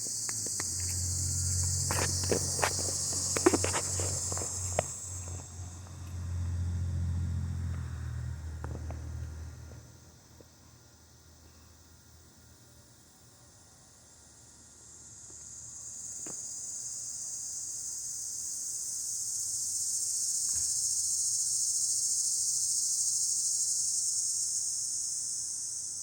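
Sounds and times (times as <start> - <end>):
cicadas buzzing: 0.0 - 10.2, 14.3 - 26.0.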